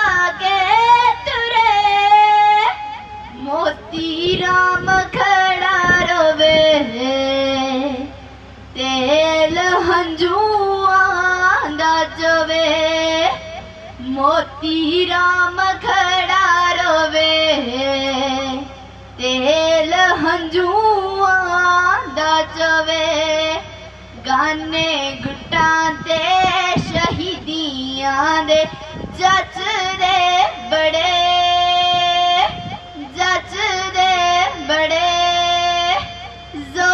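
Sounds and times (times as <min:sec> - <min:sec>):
woman singing: 0:00.0 - 0:08.1, 0:08.8 - 0:36.9.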